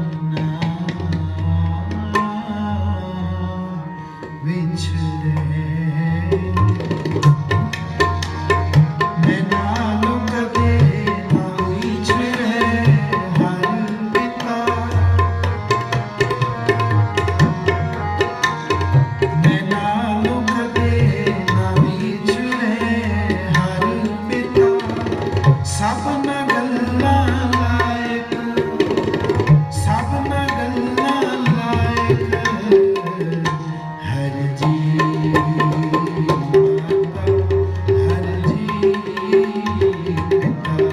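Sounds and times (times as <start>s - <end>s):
tabla playing: 0.0s - 2.7s, 3.9s - 40.9s.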